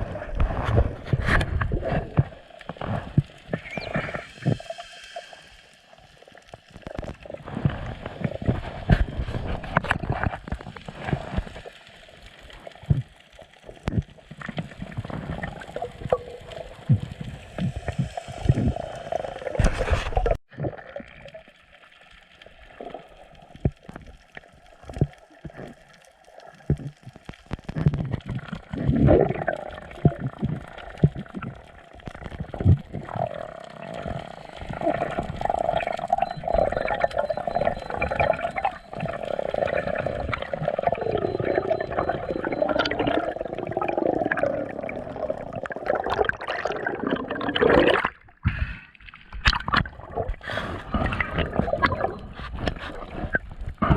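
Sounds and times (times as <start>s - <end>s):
water gurgling and sloshing: 0.0s - 53.9s.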